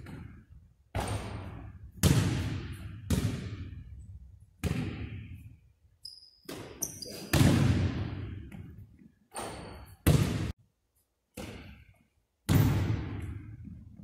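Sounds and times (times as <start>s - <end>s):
basketball impacts in gym: 0.0s - 5.8s, 6.4s - 10.6s, 11.2s - 14.0s.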